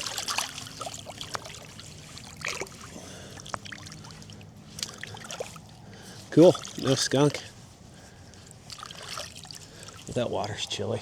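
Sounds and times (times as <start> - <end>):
light water splashes: 0.0 - 10.9
river water trickling: 0.0 - 11.0.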